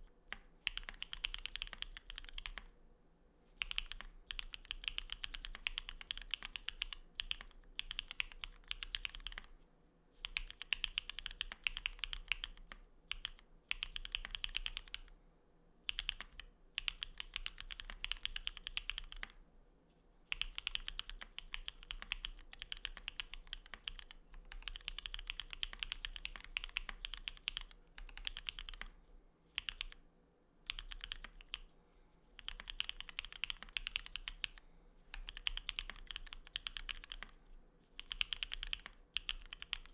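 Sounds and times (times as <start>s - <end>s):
mechanical keyboard typing: 0.3s - 2.7s, 3.6s - 9.5s, 10.2s - 15.1s, 15.9s - 19.4s, 20.3s - 28.9s, 29.6s - 30.0s, 30.7s - 31.7s, 32.4s - 37.4s, 38.0s - 39.9s.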